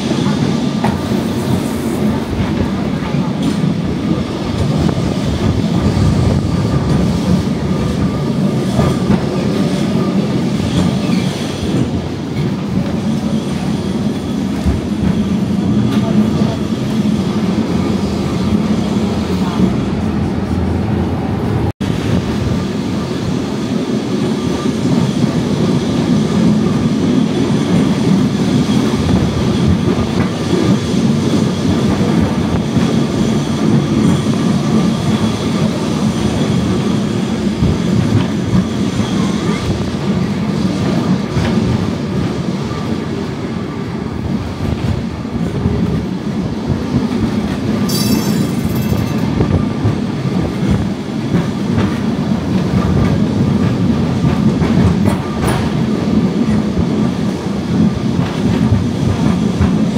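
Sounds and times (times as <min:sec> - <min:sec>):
clickety-clack over rail joints: 0:00.0 - 0:18.6, 0:24.3 - 0:43.2, 0:44.4 - 0:59.9
tram wheels rumbling on rails: 0:00.0 - 0:59.9.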